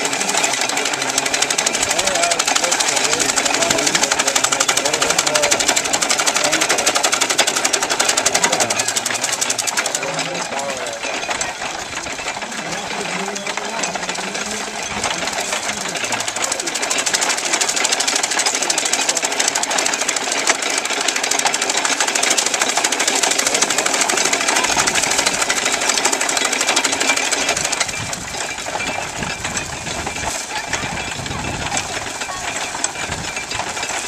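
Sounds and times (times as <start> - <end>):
fodder cutter clattering: 0.0 - 34.0.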